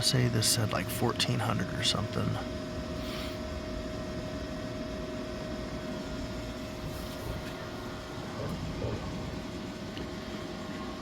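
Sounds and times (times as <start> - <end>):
coffee maker humming and whirring: 0.0 - 11.0.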